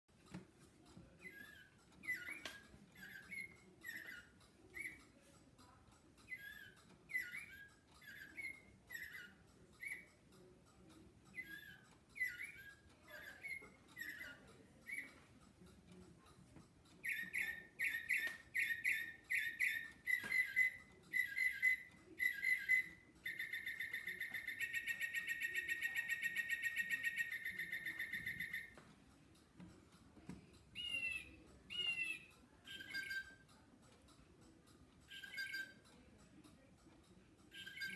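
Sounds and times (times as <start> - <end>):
recorded bird song: 0.1 - 37.9.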